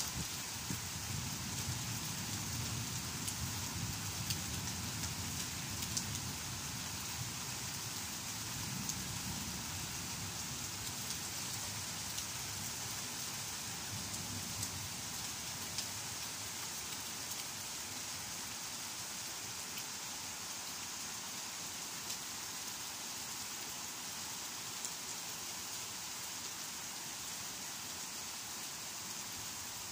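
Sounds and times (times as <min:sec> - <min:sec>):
rain falling on leaves: 0:00.0 - 0:29.9.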